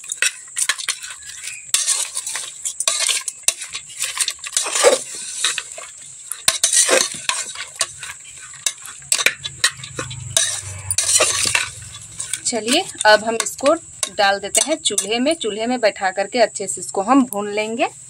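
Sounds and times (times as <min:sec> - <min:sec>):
dry lentils rustling: 0:00.0 - 0:15.4
metal ladle scraping a pot: 0:00.0 - 0:15.4.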